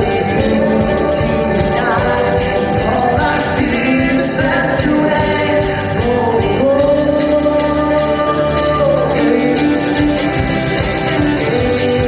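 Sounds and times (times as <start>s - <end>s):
live bluegrass band playing: 0.0s - 12.0s
man singing lead vocal: 0.0s - 12.0s.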